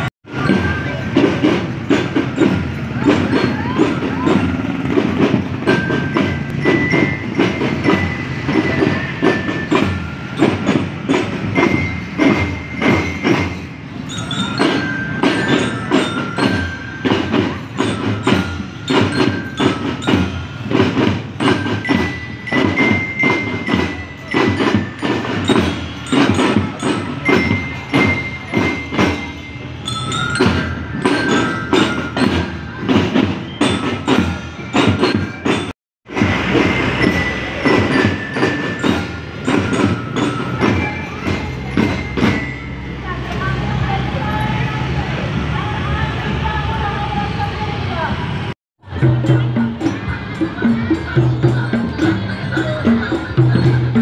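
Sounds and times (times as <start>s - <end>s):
marching drums: 0.0s - 45.4s, 48.1s - 54.0s.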